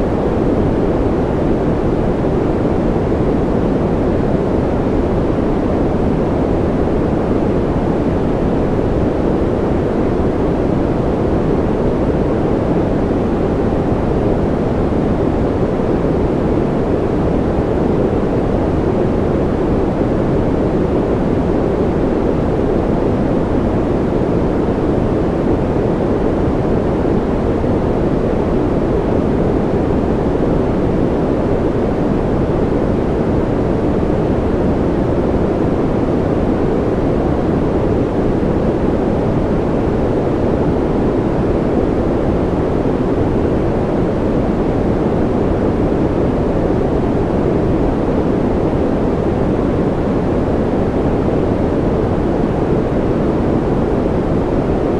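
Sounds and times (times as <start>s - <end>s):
deep white noise hiss: 0.0s - 54.9s.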